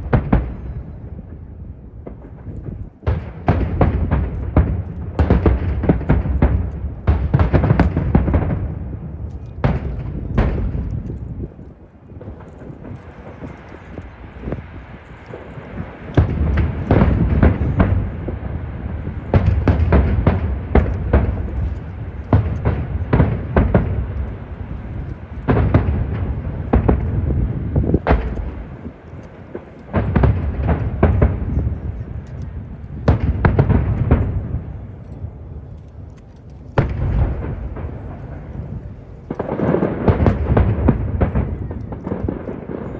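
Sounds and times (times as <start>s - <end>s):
fireworks bangs: 0.0s - 36.1s, 36.7s - 42.9s.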